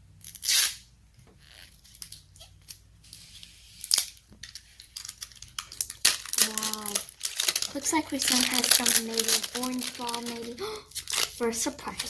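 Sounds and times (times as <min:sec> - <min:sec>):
plastic packaging ripping: 0:00.2 - 0:00.8, 0:01.4 - 0:12.0
packaging rustles and clicks: 0:01.6 - 0:12.0.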